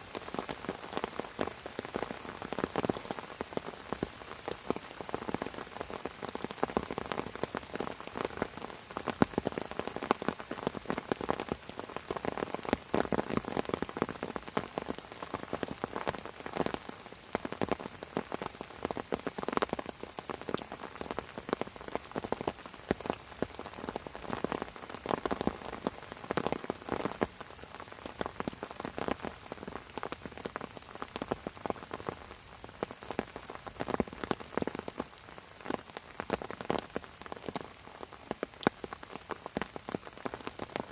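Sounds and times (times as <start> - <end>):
rain pattering on leaves: 0.0 - 40.9.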